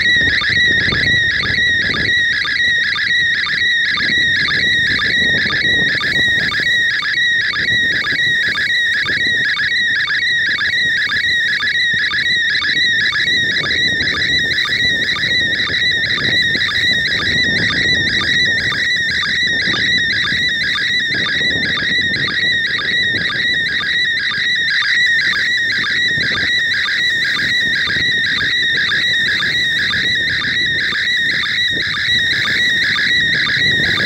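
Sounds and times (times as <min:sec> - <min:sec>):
warbling radio image signal tone: 0:00.0 - 0:34.0.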